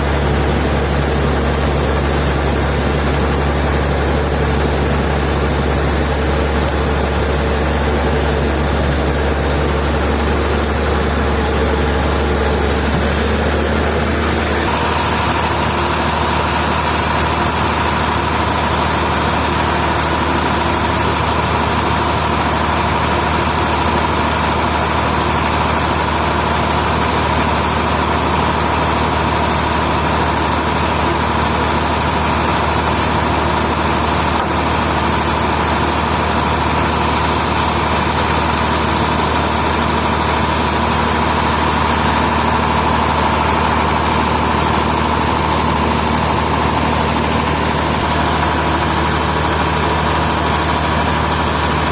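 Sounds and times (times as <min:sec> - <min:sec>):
sawmill machinery humming: 0:00.0 - 0:51.9.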